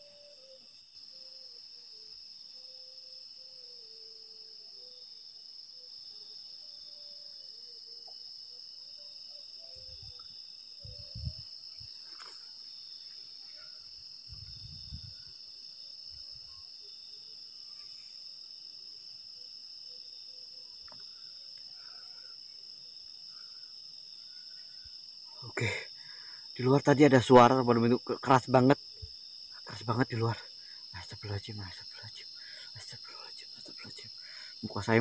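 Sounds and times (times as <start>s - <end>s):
crickets and insects chirping: 0.0s - 35.0s.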